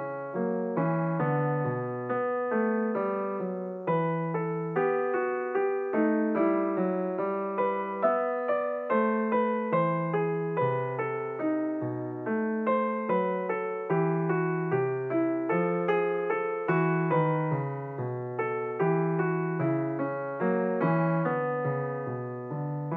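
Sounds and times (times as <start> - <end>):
piano notes and chords: 0.0 - 22.9.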